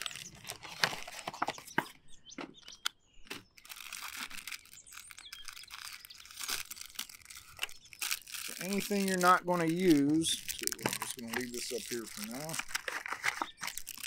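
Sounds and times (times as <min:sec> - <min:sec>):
packet ripping open: 0:00.0 - 0:01.8, 0:03.3 - 0:14.0
packets crinkling: 0:00.0 - 0:01.9, 0:03.3 - 0:14.0.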